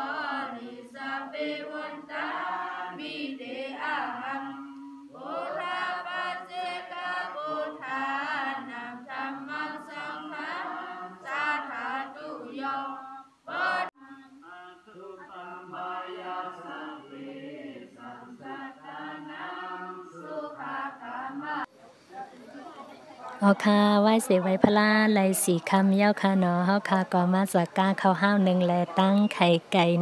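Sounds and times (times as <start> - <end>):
group chanting prayers in unison: 0.0 - 30.0.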